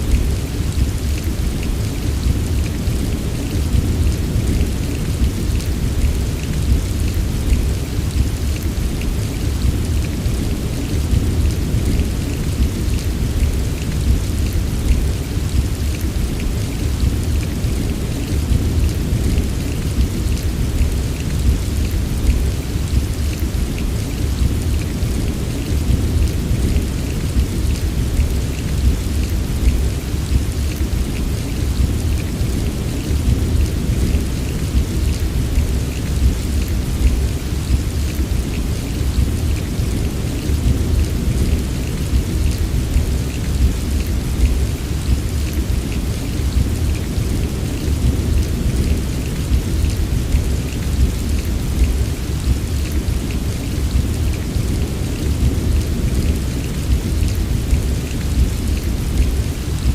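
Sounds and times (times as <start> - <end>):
patter of raindrops: 0.0 - 59.9
steady rain falling: 0.0 - 59.9.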